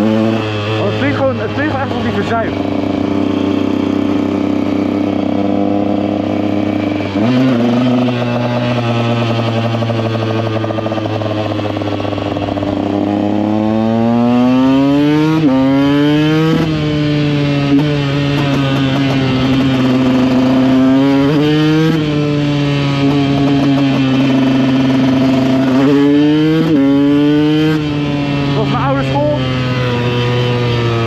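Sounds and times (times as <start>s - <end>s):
motorcycle engine shifting gears: 0.0s - 31.0s.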